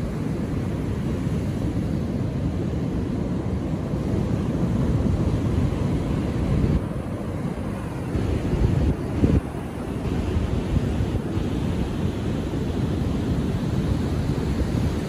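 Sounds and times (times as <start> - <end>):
ocean surf breaking: 0.0 - 15.0
wind buffeting microphone: 2.4 - 15.0.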